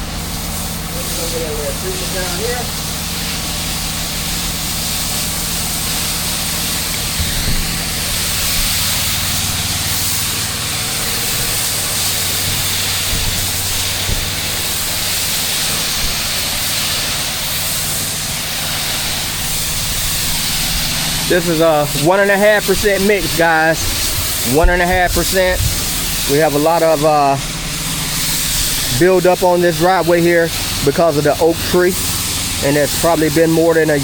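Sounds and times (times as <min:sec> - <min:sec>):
hiss of spray: 0:00.0 - 0:34.0
pressure washer engine drone: 0:00.0 - 0:34.0.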